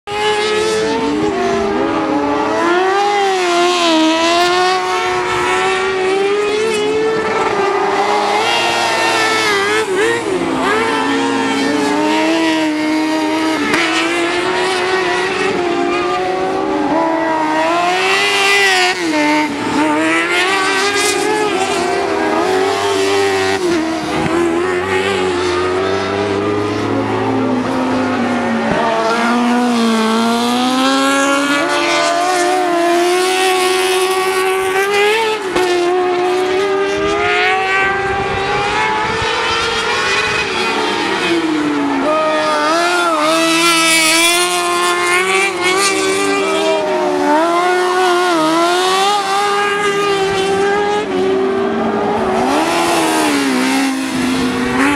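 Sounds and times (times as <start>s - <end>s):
racing buggy engines revving: 0.1s - 54.9s.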